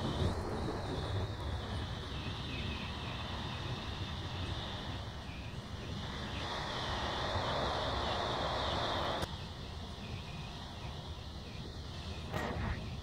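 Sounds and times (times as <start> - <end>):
train wheels rumbling on rails: 0.0 - 12.9
rushing hiss: 0.0 - 13.0.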